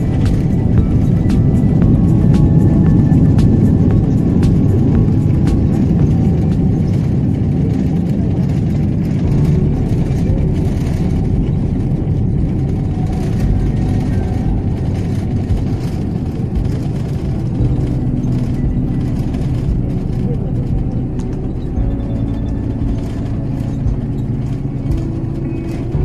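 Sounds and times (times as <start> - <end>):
aircraft wheels rolling on runway: 0.0 - 26.0
low rumble of jet engines: 0.0 - 26.0.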